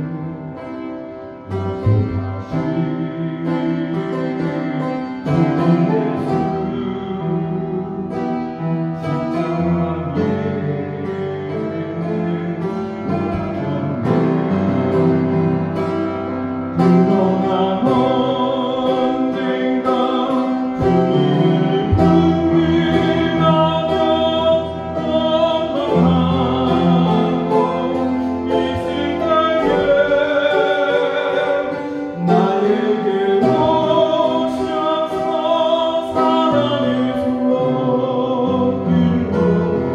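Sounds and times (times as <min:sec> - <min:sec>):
piano playing hymn tune: 0:00.0 - 0:39.9.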